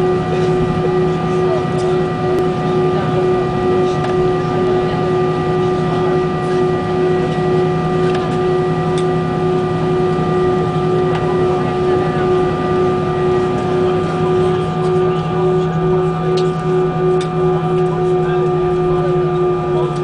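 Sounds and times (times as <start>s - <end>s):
jet engines idling: 0.0s - 20.0s.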